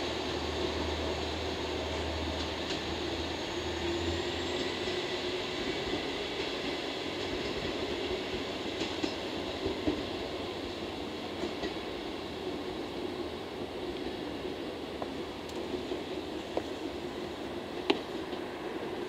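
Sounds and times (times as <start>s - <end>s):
diesel railcar engine: 0.0s - 19.0s.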